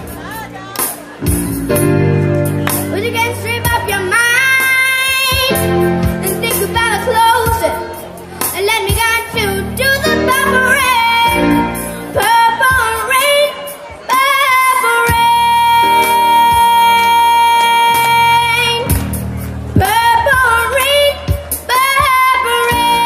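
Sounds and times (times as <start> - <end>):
keyboard accompaniment: 0.0 - 23.0.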